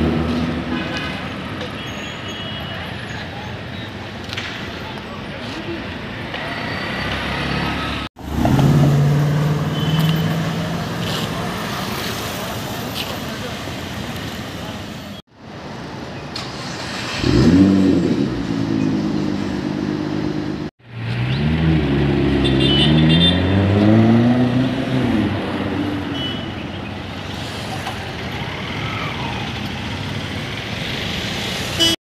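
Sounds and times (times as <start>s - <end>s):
street traffic: 0.0s - 32.0s.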